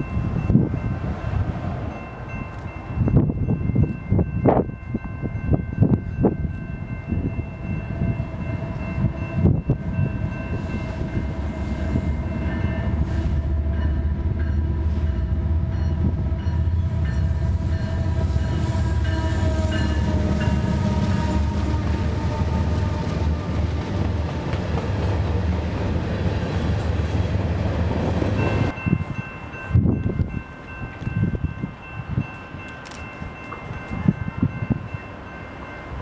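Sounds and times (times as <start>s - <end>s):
crossing bells ringing: 0.0s - 24.5s, 28.0s - 36.0s
diesel locomotive engine rumble: 0.0s - 36.0s.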